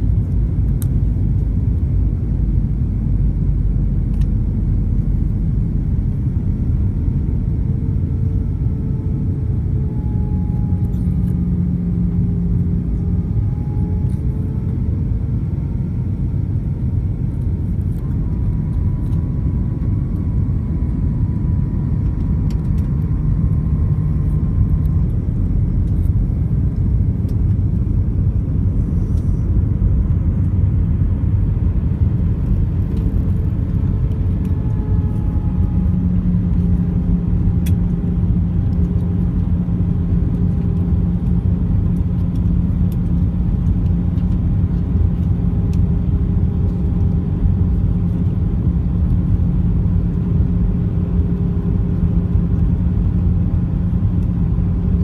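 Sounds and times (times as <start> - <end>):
jet engine drone: 0.0 - 55.0.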